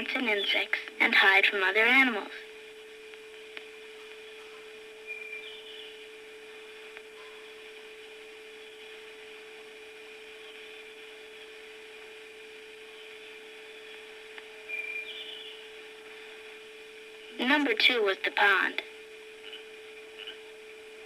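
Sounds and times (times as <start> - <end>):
soundtrack hum and hiss: 0.0 - 21.0.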